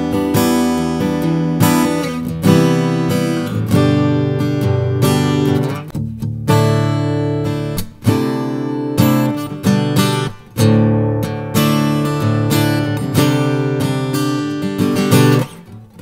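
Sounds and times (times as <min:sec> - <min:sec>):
acoustic guitar strummed and picked: 0:00.0 - 0:16.0.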